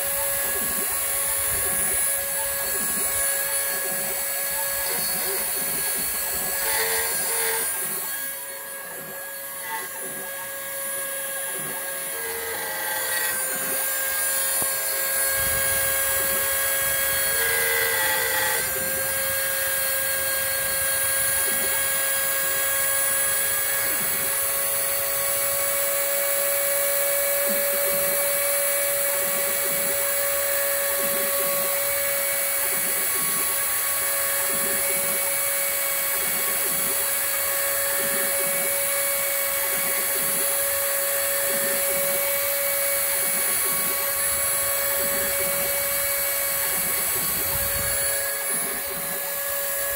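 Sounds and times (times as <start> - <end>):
rotary tool high whine: 0.0 - 49.9.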